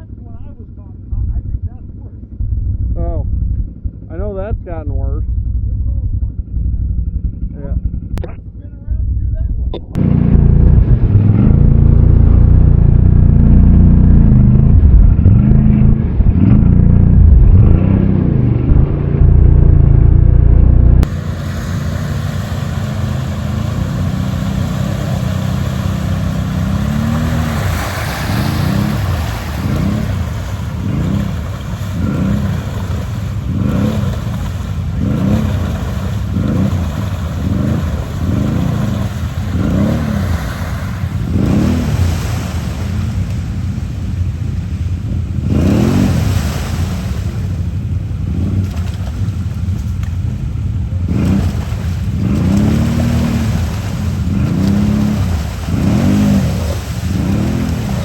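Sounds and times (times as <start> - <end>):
quad bike engine revving: 0.0 - 49.5, 50.9 - 58.0.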